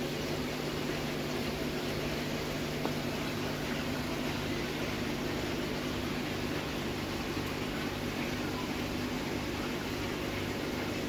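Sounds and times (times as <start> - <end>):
aquarium equipment humming: 0.0 - 11.0.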